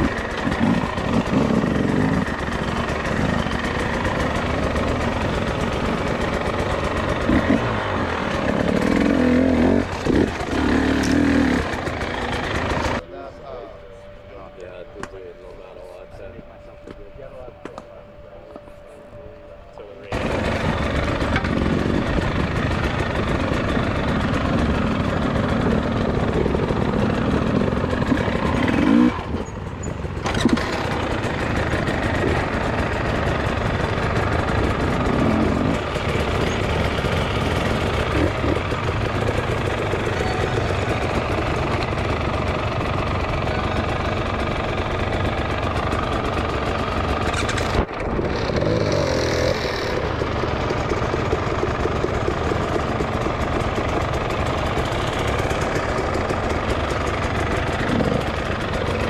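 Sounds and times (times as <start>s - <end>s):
dirt bike engine revving: 0.0s - 13.0s, 20.1s - 59.0s.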